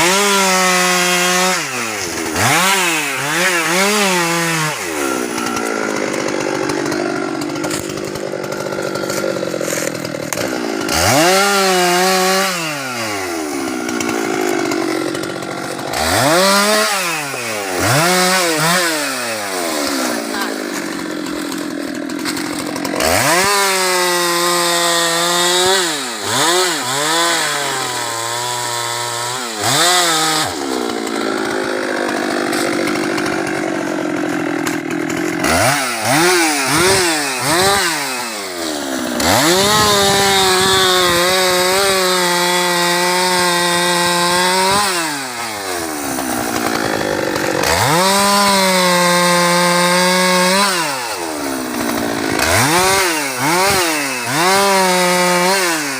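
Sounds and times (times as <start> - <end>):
chainsaw cutting wood: 0.0 - 55.9
chainsaw idling and revving: 0.0 - 55.9.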